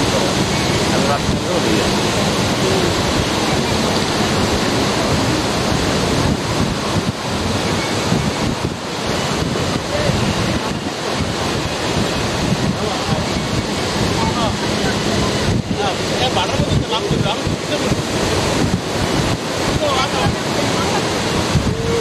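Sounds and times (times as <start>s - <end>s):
sea surf washing ashore: 0.0s - 22.0s
wind buffeting the microphone: 0.0s - 22.0s.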